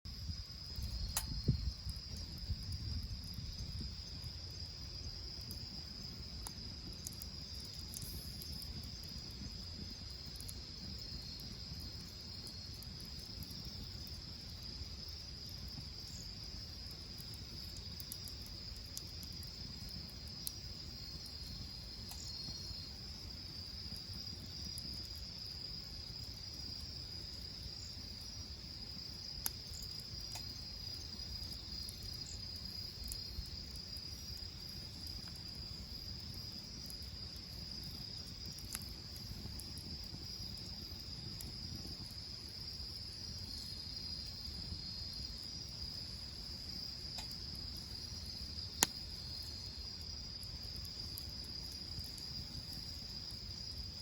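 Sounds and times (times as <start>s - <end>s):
insects trilling: 0.1s - 54.0s
second insect trill: 0.1s - 54.0s.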